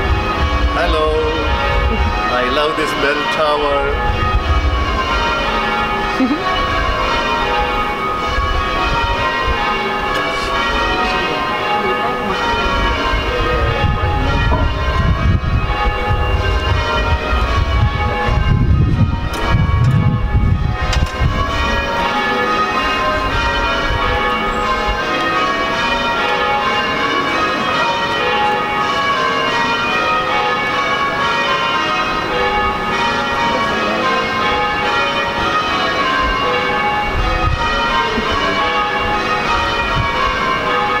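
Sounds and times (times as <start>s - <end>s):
tower bells ringing: 0.0s - 41.0s.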